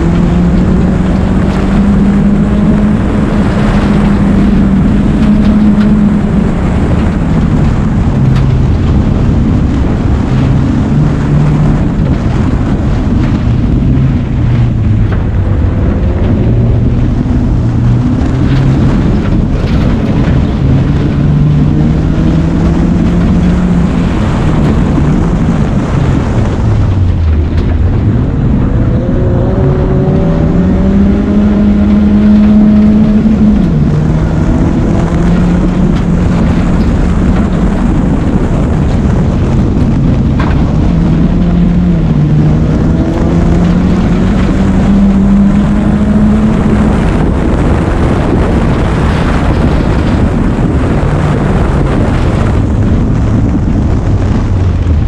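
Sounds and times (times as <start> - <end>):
race car engine revving: 0.0 - 55.0
tyre and gravel noise: 0.0 - 55.0.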